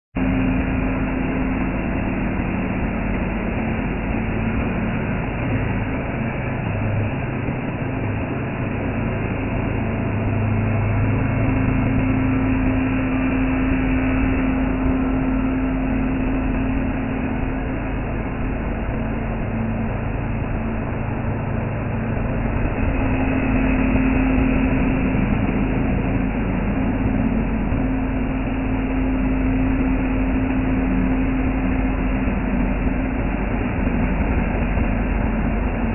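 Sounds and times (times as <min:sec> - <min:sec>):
cnc machine motor hum: 0:00.2 - 0:35.9
constant mechanical noise: 0:00.2 - 0:35.9.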